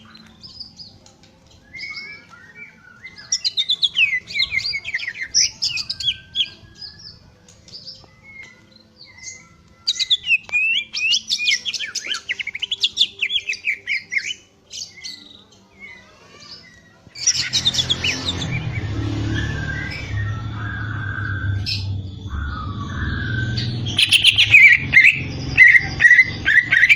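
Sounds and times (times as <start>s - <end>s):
bird warbling whistled song: 1.6s - 15.3s, 16.6s - 26.9s.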